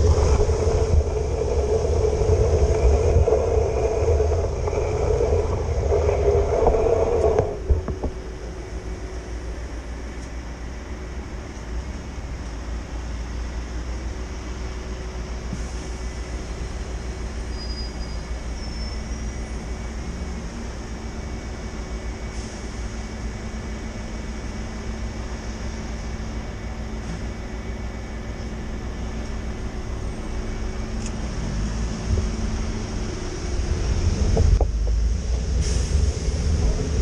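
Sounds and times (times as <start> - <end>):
city traffic noise: 0.0 - 37.0
faint engine hum: 0.0 - 37.0.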